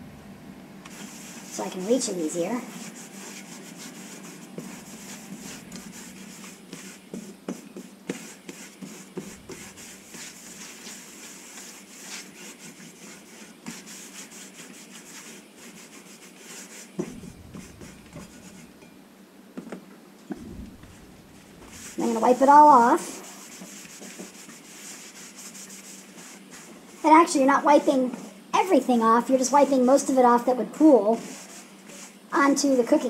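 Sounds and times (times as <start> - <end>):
paper towel scrubbing skillet: 0.9 - 18.9, 20.4 - 33.0.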